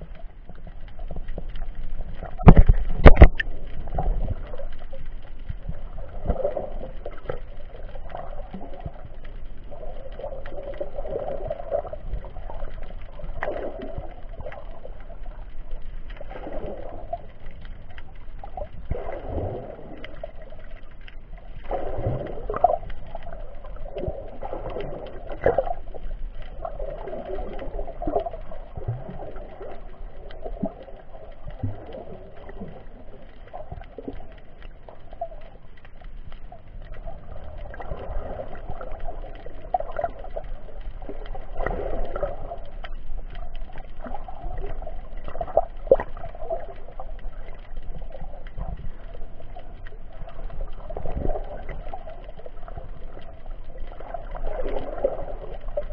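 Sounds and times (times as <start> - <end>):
muffled underwater rushing: 0.0 - 55.9.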